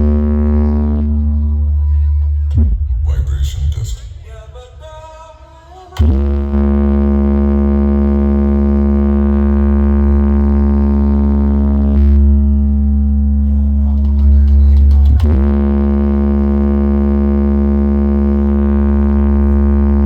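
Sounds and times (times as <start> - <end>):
deep bass drone: 0.0 - 4.4, 6.0 - 20.0.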